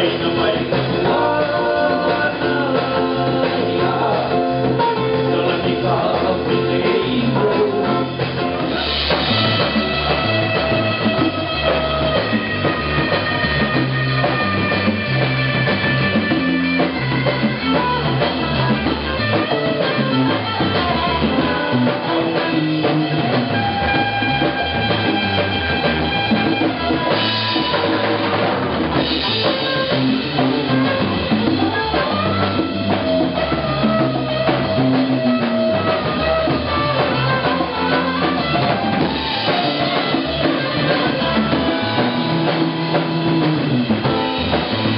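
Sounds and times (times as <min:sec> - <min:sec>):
bass guitar: 0:00.0 - 0:44.9
congas: 0:00.0 - 0:44.9
drum kit: 0:00.0 - 0:44.9.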